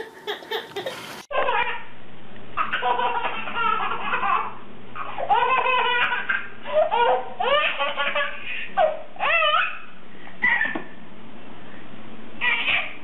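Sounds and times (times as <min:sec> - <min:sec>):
baby laughing: 0:00.0 - 0:01.8, 0:02.6 - 0:10.8, 0:12.4 - 0:13.0.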